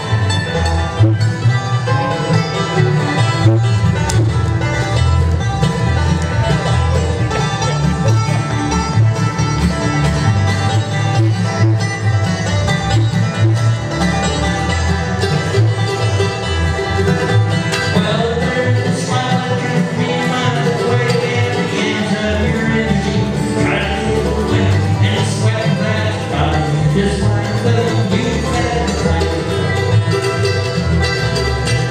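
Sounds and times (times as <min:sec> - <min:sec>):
acoustic guitar: 0:00.0 - 0:31.9
banjo: 0:00.0 - 0:31.9
mandolin: 0:00.0 - 0:31.9
upright bass: 0:00.0 - 0:31.9.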